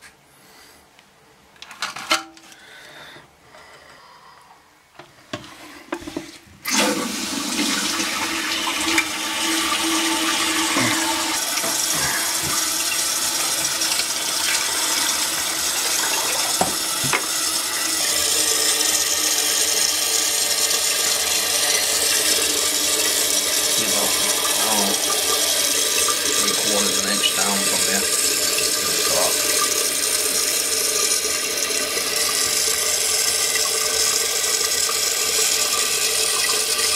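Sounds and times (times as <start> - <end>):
water pouring into toilet tank: 6.6 - 36.9.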